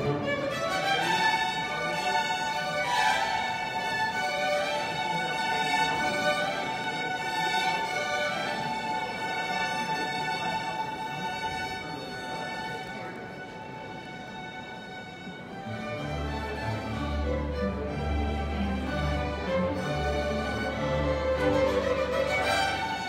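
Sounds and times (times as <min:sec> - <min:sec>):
string orchestra holding bowed notes: 0:00.0 - 0:23.0.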